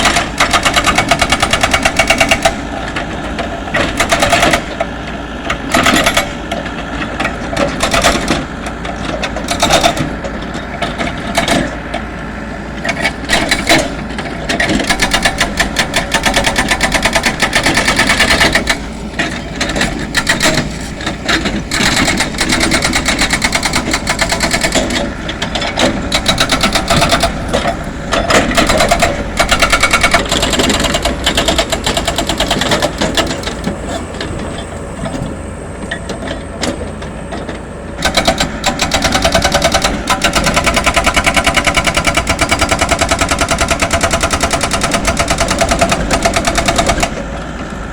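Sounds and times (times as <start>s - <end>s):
road-works machine rattling: 0.0s - 47.9s.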